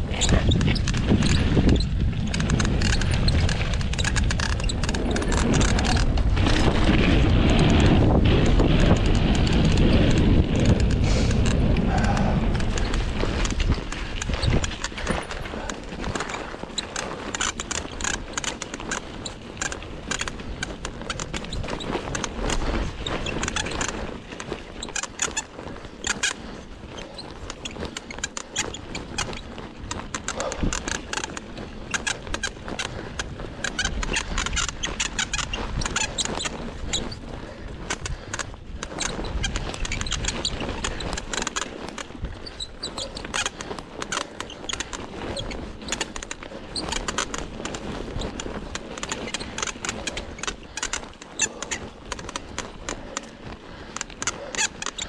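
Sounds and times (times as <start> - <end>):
mountain bike rattling and squeaking: 0.0 - 55.0
tyres running over dirt: 0.0 - 55.0.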